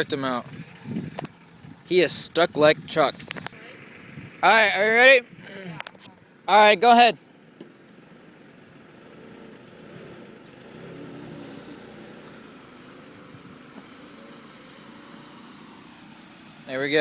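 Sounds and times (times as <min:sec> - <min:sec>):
vehicle engines revving: 0:00.0 - 0:17.0.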